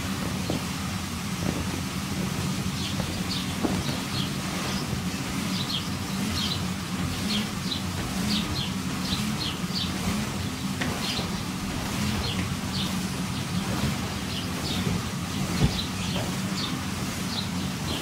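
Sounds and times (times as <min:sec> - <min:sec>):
air blower rumbling: 0:00.0 - 0:18.0.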